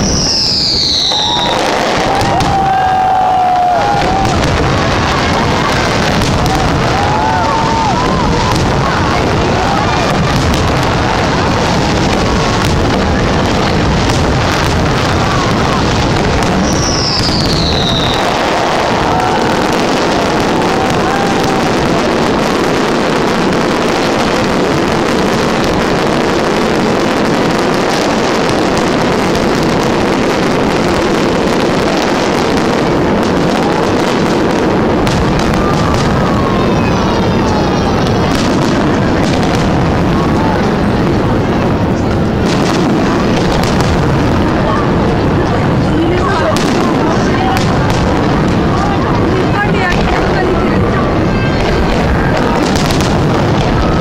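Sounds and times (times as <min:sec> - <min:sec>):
falling firework whistle: 0:00.0 - 0:13.1, 0:14.0 - 0:41.3, 0:51.1 - 0:54.0
crowd noise: 0:00.0 - 0:54.0
fireworks bangs and crackles: 0:00.0 - 0:54.0.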